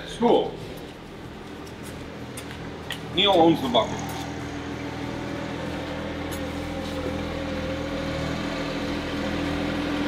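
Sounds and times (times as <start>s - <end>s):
machine hum: 0.5s - 10.0s.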